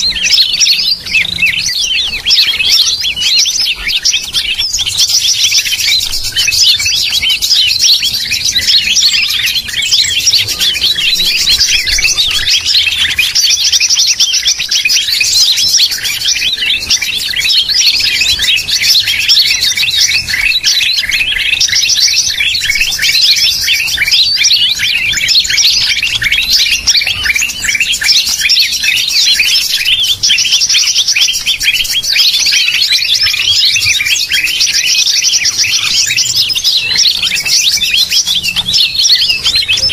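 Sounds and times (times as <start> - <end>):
bird chirping and whistling: 0.0 - 39.9.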